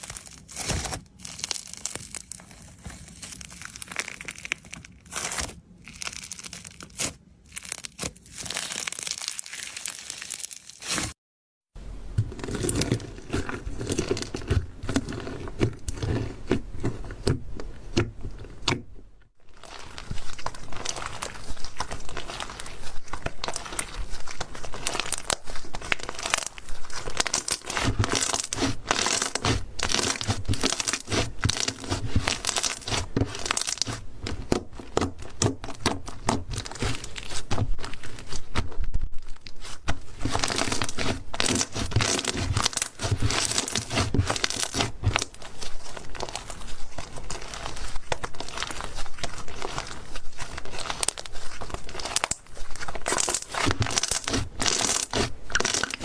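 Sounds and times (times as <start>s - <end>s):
slime crackling and popping: 0.0s - 11.2s, 19.5s - 56.0s.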